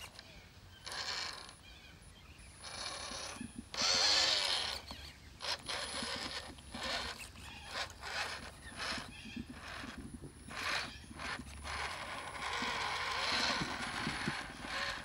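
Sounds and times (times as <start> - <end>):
toy truck electric motor whining: 0.0 - 1.7, 2.6 - 15.0.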